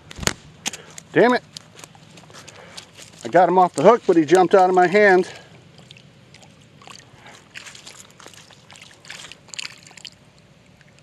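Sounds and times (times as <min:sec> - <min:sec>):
fish splashing in shallow water: 0:00.7 - 0:11.0.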